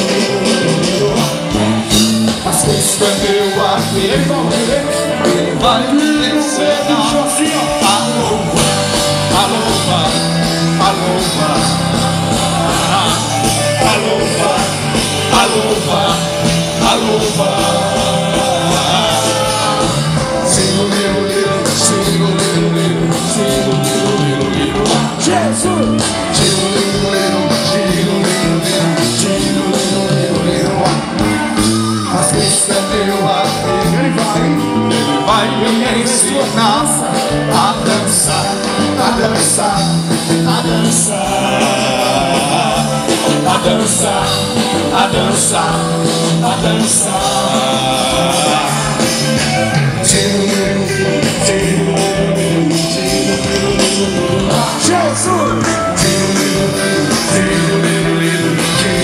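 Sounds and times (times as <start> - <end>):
drums: 0.0 - 59.0
electric guitars: 0.0 - 59.0
keyboard playing: 0.0 - 59.0
person singing: 0.0 - 59.0.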